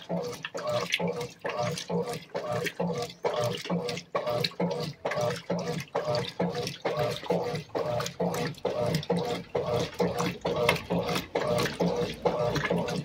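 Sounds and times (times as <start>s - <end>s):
washing machine water sloshing: 0.0s - 13.0s.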